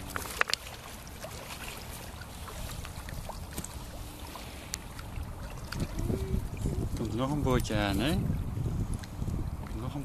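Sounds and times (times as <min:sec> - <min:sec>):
water sounds: 0:00.0 - 0:10.0.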